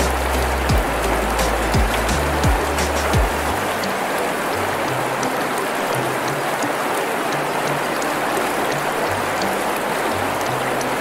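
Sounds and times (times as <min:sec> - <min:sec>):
flowing water rushing: 0:00.0 - 0:11.0
soft background music: 0:00.0 - 0:11.0.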